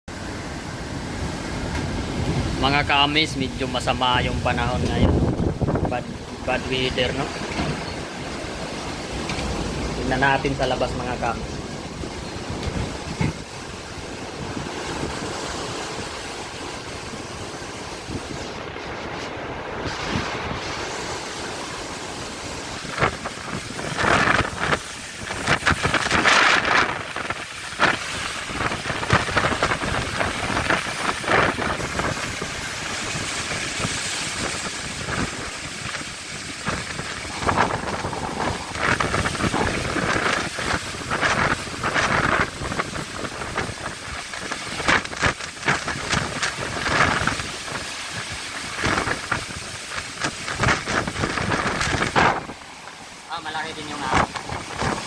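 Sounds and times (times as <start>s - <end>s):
sea waves rushing: 0.1s - 55.0s
wind buffeting microphone: 0.6s - 52.8s, 53.6s - 55.0s.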